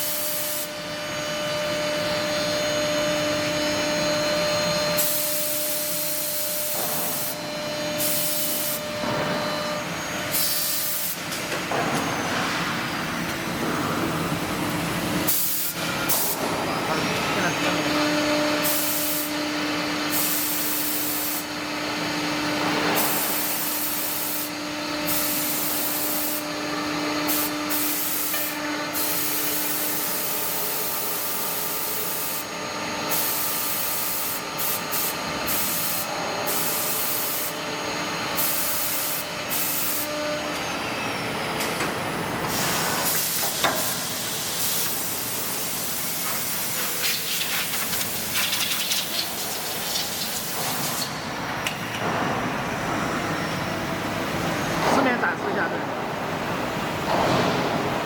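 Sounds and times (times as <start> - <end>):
drilling machine running and cutting: 0.0 - 55.8.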